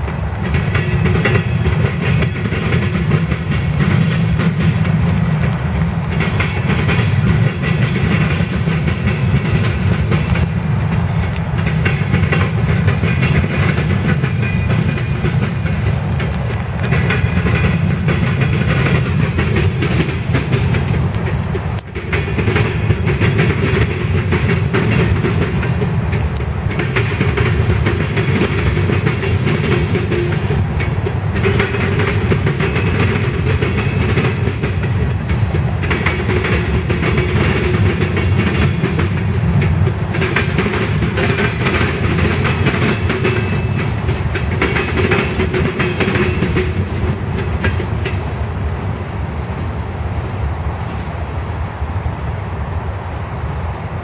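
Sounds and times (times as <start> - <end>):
wheels clacking over rail joints: 0.0 - 50.2
wheel-on-rail rumble: 0.0 - 54.0.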